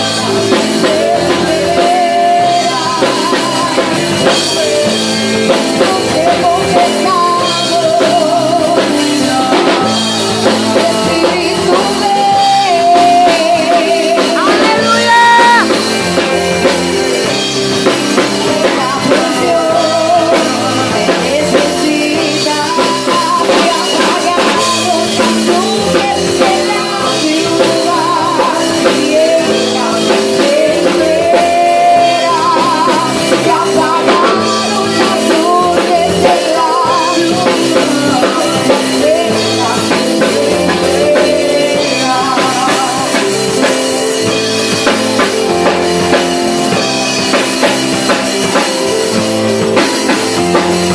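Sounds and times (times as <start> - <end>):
band music with drum kit: 0.0 - 50.9
person singing with vibrato: 0.0 - 50.9.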